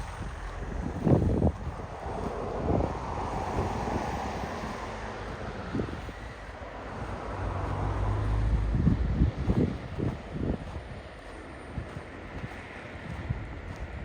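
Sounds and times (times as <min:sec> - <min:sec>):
low rumble with hum: 0:00.0 - 0:14.0
muffled footsteps in snow: 0:00.0 - 0:14.0
wind buffeting microphone: 0:00.0 - 0:14.0.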